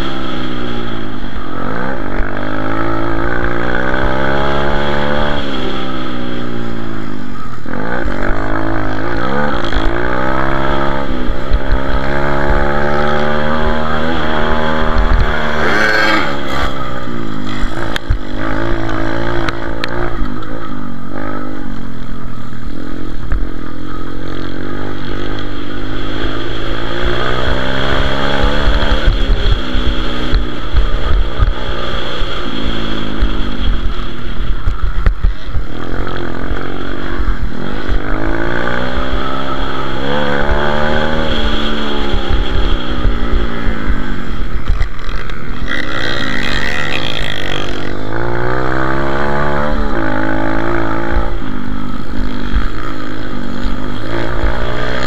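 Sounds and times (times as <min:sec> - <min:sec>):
motorbike engine revving: 0:00.0 - 0:55.0
rush of noise: 0:00.0 - 0:55.0.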